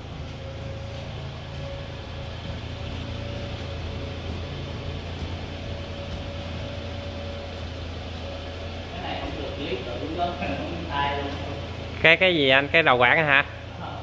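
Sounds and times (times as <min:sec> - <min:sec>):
car engine running: 0:00.0 - 0:14.0
faint constant whine: 0:00.0 - 0:14.0.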